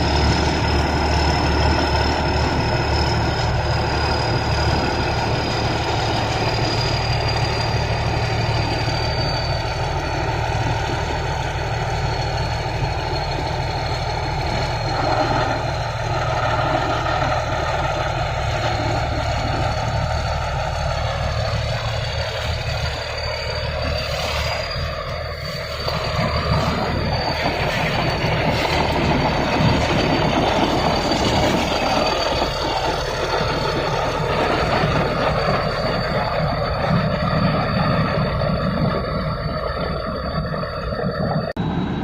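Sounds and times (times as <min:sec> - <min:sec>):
diesel engine hum: 0:00.0 - 0:42.0
high whine: 0:00.0 - 0:42.0.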